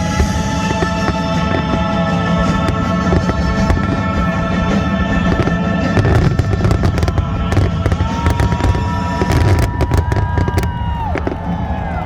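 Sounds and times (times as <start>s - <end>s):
fireworks cracking and banging: 0.0s - 12.0s.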